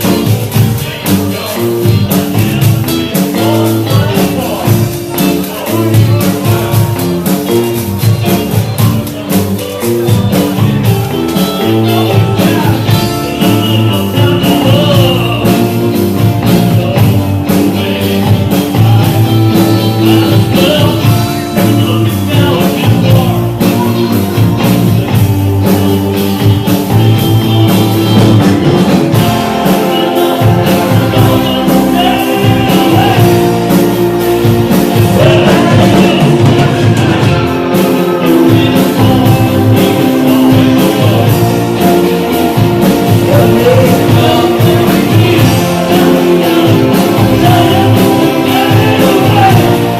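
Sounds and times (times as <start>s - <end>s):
person singing: 0.0s - 49.9s
rock and roll band music: 0.0s - 49.9s.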